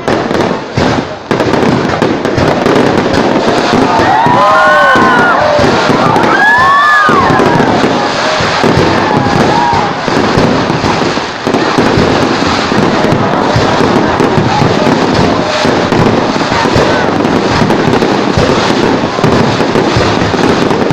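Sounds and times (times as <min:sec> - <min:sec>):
fireworks bangs and crackling: 0:00.0 - 0:20.9.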